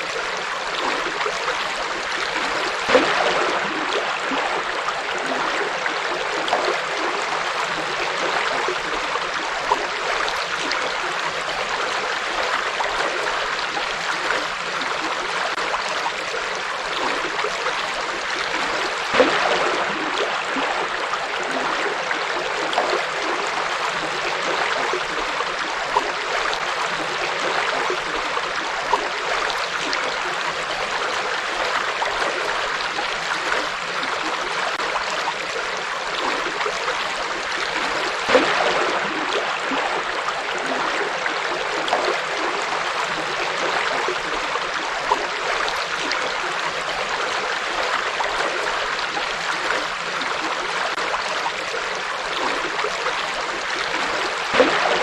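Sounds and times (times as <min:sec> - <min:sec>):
water splashes: 0:00.0 - 0:55.0.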